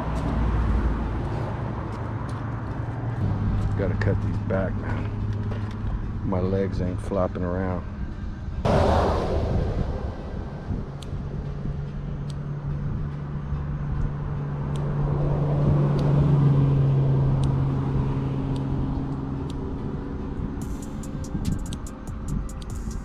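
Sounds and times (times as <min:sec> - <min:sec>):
vehicle engine hum passing: 0:00.0 - 0:06.2, 0:08.7 - 0:21.8.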